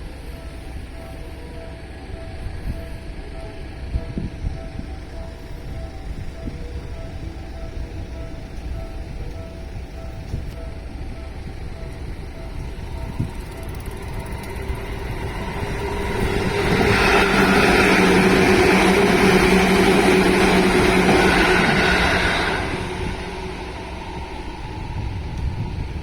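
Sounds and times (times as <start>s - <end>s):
electric train passing at speed: 0.0s - 26.0s
train motor whine: 0.0s - 26.0s.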